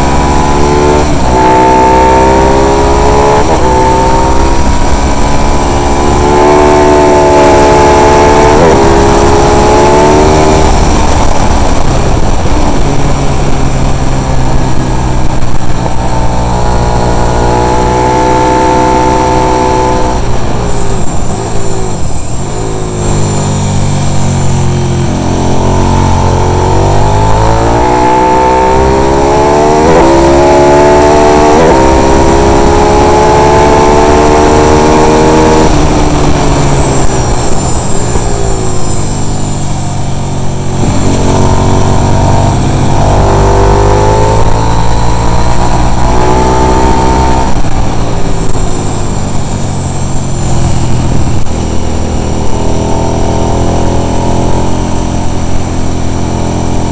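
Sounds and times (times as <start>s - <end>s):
racing motorcycle engine: 0.0s - 56.9s.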